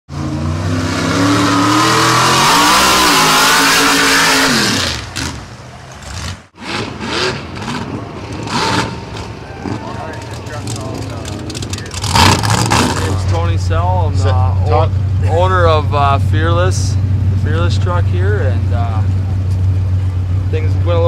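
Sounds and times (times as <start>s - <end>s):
truck engine revving: 0.1s - 21.0s.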